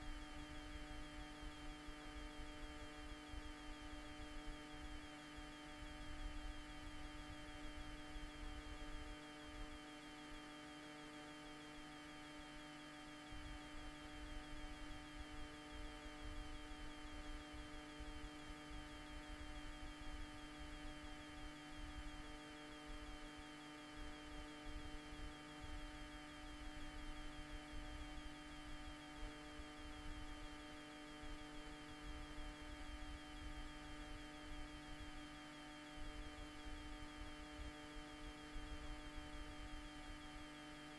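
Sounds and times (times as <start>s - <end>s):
electrical hum with fixed tones: 0.0s - 40.9s.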